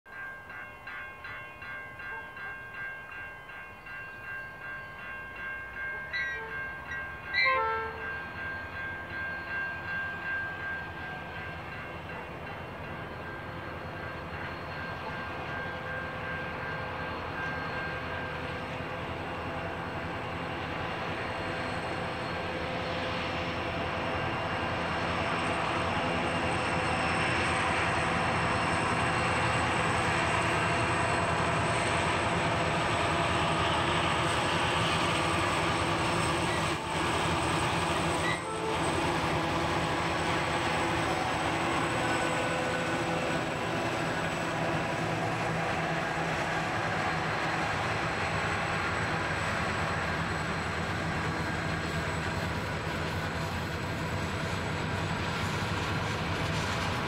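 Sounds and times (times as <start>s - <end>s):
diesel locomotive engine rumble: 0.1s - 57.0s.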